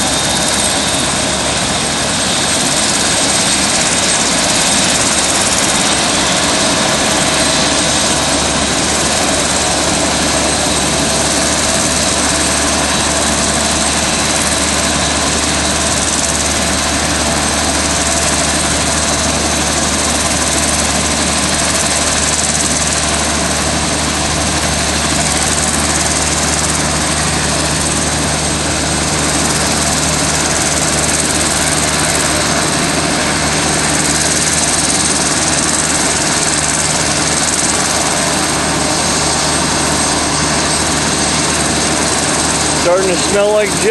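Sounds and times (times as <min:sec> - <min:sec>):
helicopter turbine and rotor noise: 0:00.0 - 0:43.9.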